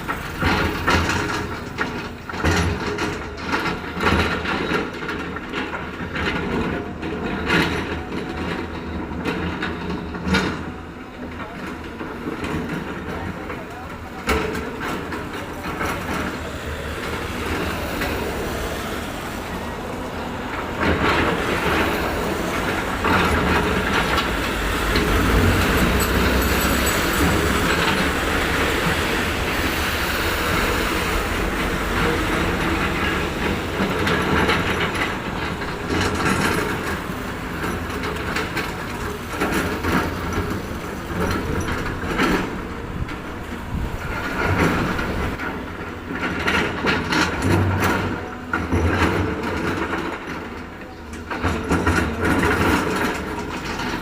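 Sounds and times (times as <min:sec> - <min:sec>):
heavy machinery clanking and rumbling: 0:00.0 - 0:54.0.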